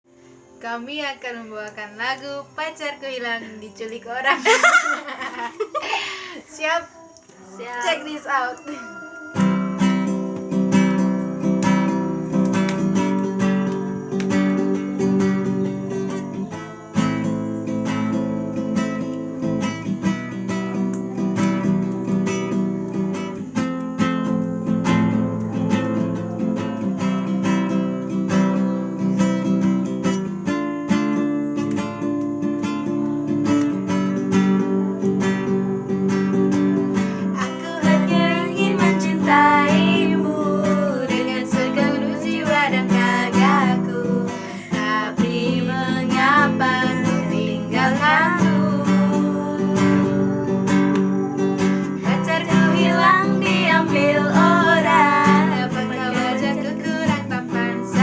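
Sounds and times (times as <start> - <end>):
acoustic guitar strumming: 7.4 - 58.0.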